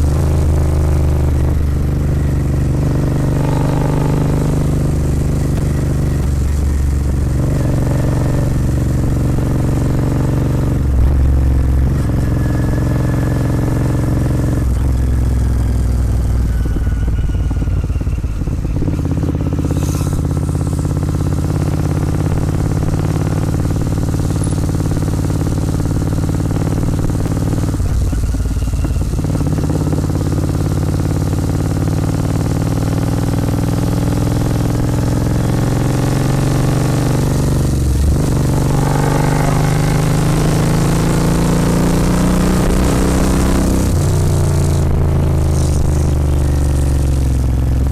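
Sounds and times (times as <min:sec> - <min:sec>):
motorcycle engine under way: 0:00.0 - 0:47.9.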